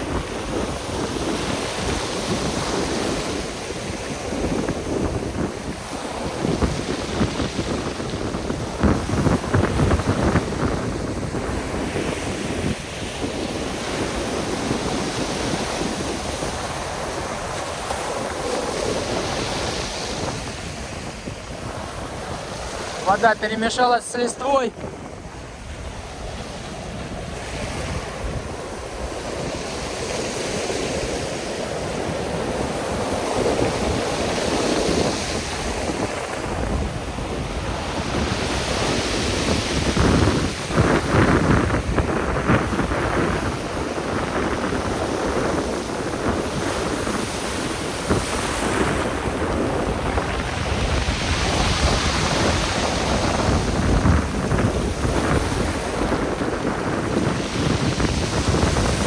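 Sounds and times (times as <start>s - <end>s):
surf breaking on shore: 0.0s - 59.0s
wind buffeting microphone: 0.0s - 59.0s.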